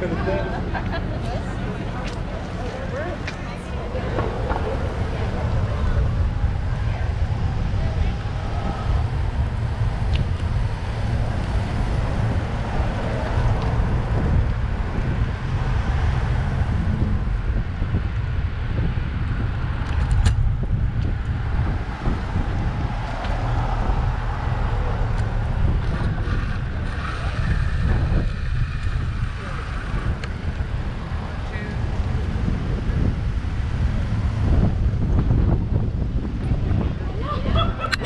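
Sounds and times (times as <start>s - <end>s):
car traffic: 0.0s - 38.0s
wind noise on microphone: 0.0s - 38.0s.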